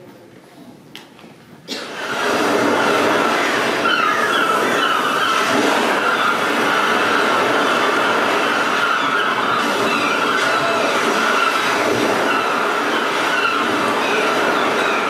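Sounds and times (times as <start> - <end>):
subway train rumble: 0.0 - 15.0
wheel squeal: 2.7 - 15.0.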